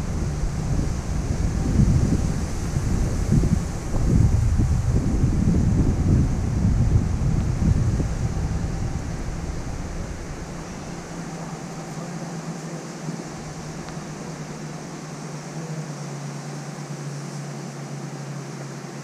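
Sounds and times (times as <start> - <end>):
low mechanical hum: 0.0 - 19.0
outdoor hiss: 0.0 - 19.0.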